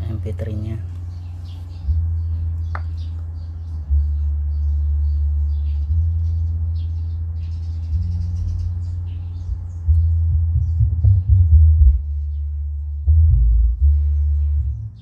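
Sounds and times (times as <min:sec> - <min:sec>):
deep bass music from loudspeaker: 0:00.0 - 0:15.0.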